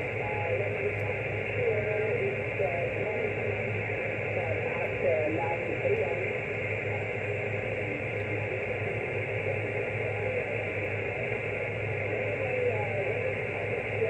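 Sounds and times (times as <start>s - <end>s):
low steady hum: 0.0s - 14.0s
radio receiver hiss: 0.0s - 14.0s.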